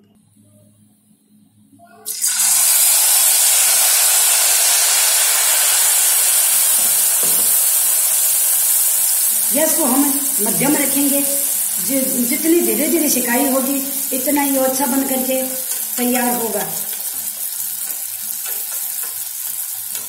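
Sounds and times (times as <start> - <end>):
batter sizzling in hot oil: 2.1 - 20.0.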